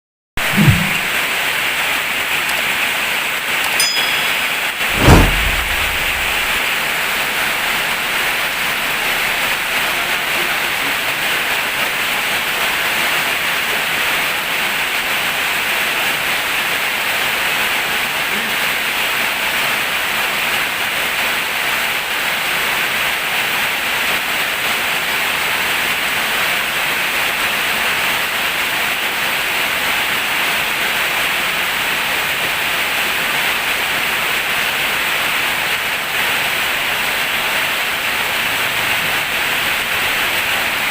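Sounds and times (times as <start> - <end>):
heavy rain pouring: 0.4 - 40.9.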